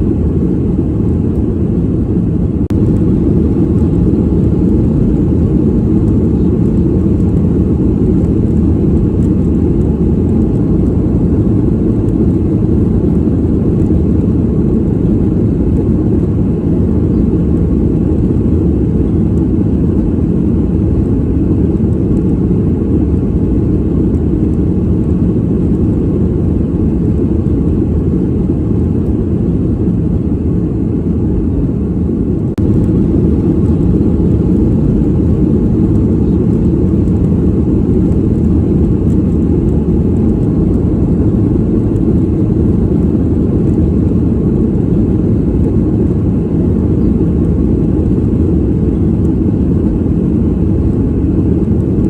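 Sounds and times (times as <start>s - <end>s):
airliner cabin engine rumble: 0.0s - 52.0s.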